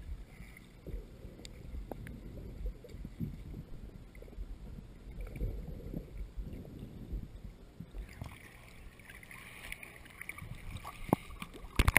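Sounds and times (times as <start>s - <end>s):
water splashing and sloshing: 0.0s - 11.9s.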